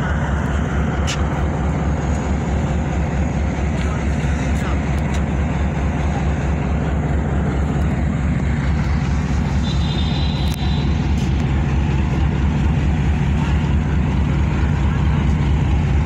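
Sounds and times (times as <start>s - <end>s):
train engine idling: 0.0s - 16.0s.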